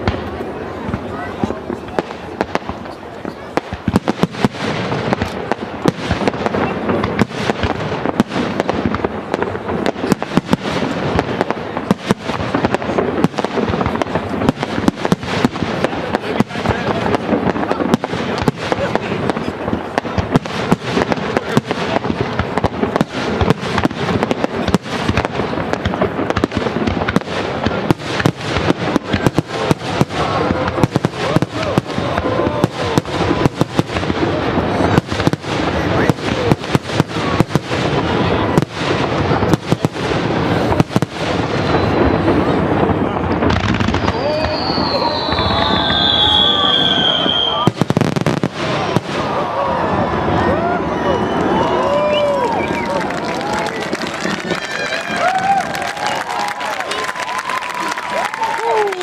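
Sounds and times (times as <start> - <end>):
fireworks bursting with sharp bangs: 0.0 - 59.0.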